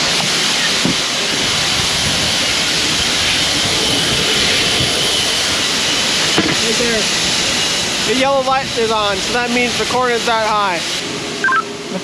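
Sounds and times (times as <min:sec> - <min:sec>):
farm machinery rushing noise: 0:00.0 - 0:11.4
faint high whine: 0:00.0 - 0:11.9.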